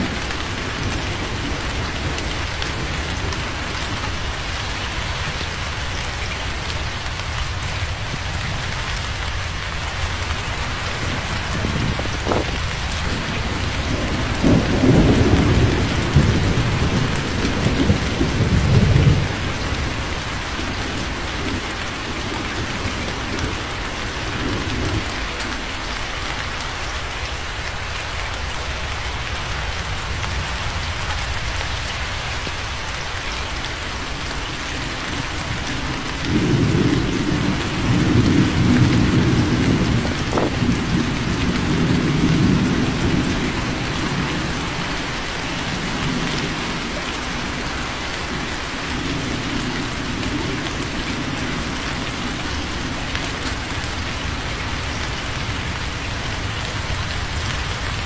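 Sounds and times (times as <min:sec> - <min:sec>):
thunder rumbling: 0:00.0 - 0:25.9, 0:28.8 - 0:58.0
steady rain: 0:00.0 - 0:58.0.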